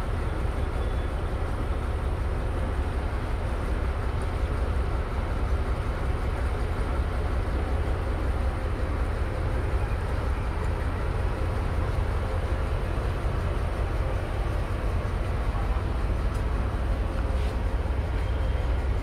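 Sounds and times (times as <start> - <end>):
ferry engine low rumble: 0.0 - 19.0.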